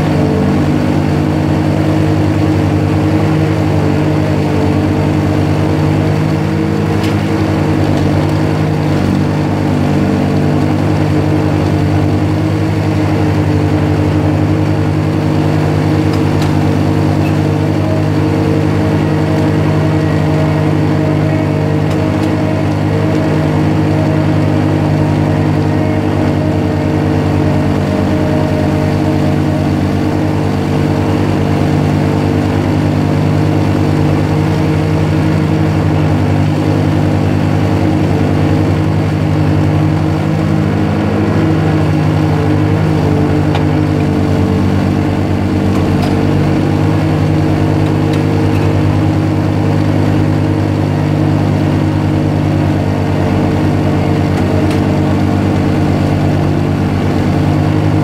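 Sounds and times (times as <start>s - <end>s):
ice resurfacer engine humming: 0.0s - 58.0s.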